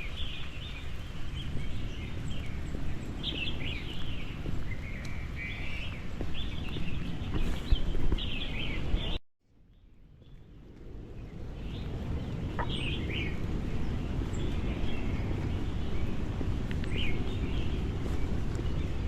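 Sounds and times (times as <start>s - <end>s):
birds chirping: 0.0s - 19.0s
outdoor background noise: 0.0s - 19.0s.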